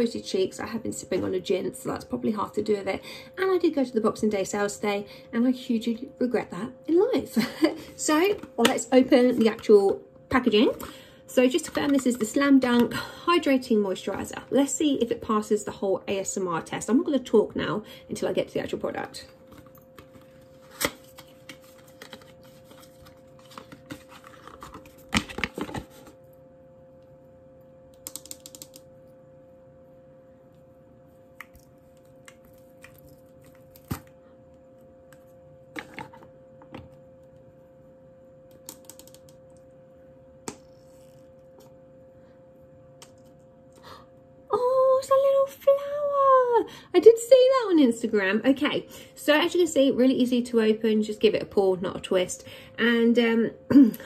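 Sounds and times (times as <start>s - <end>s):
faint hum: 0.0s - 54.0s.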